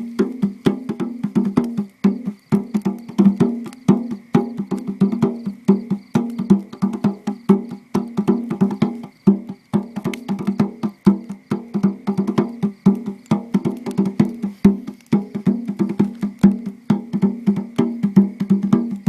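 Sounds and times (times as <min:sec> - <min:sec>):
percussion in fast rhythm: 0:00.0 - 0:19.0.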